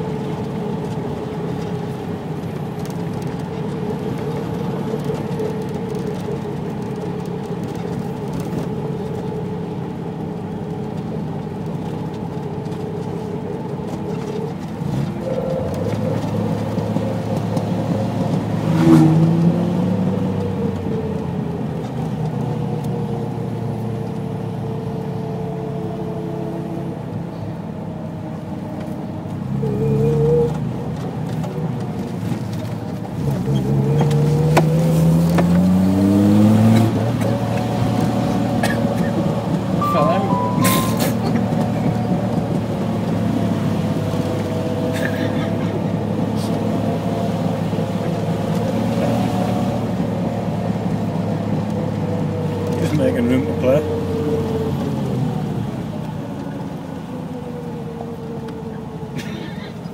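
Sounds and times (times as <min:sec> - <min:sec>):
car engine revving while driving: 0:00.0 - 0:58.7.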